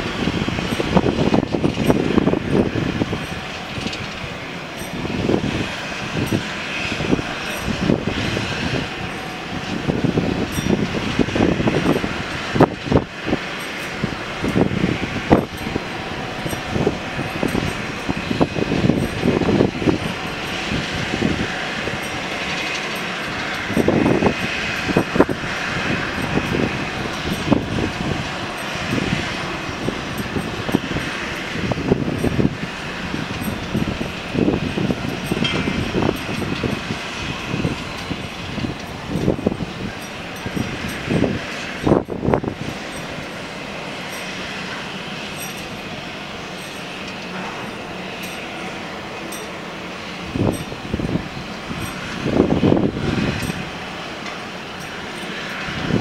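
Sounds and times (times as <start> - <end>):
aircraft rushing noise: 0.0 - 56.0
wind buffeting microphone: 0.0 - 56.0.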